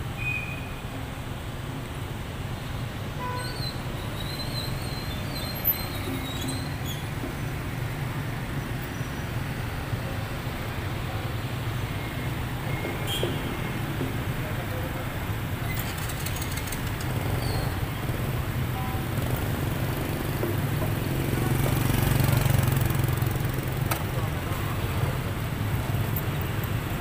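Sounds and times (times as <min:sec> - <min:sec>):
car engines rumbling: 0:00.0 - 0:27.0.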